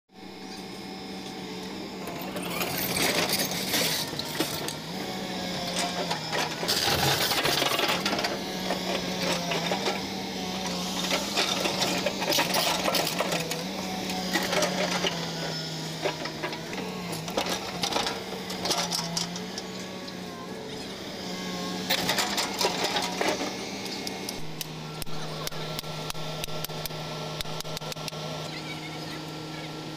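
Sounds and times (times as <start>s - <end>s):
excavator diesel engine running: 0.2s - 29.9s.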